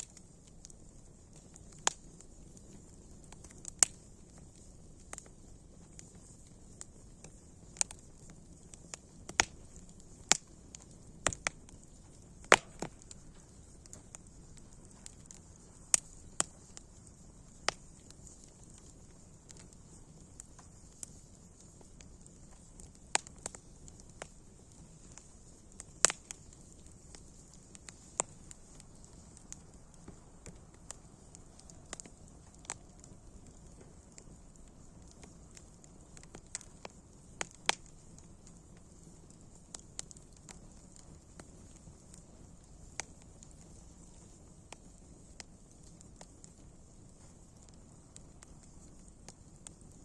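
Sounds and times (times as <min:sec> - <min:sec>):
faint steady hiss: 0:00.0 - 0:50.0
wood fire popping and snapping: 0:00.0 - 0:50.0.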